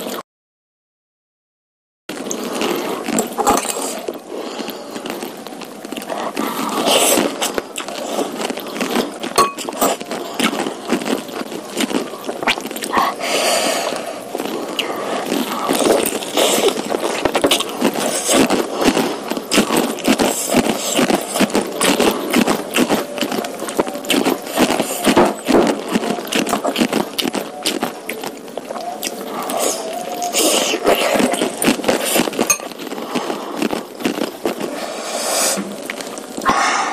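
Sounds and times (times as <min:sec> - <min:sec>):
smacks or slurps: 0:02.1 - 0:36.6
wet chewing: 0:02.1 - 0:36.9.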